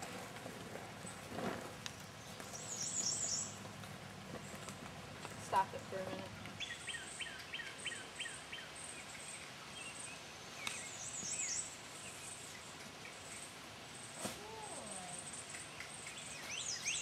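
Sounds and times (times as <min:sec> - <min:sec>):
small birds chirping: 0:01.9 - 0:03.7, 0:04.3 - 0:17.0.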